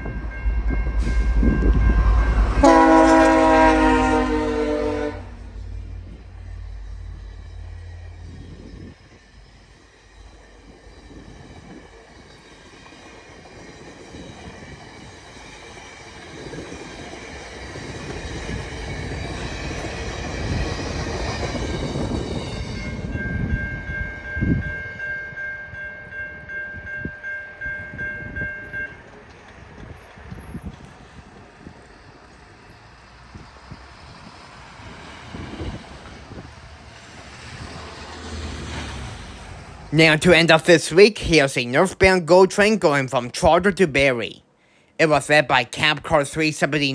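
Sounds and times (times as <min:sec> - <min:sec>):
passenger train passing: 0:00.0 - 0:46.9.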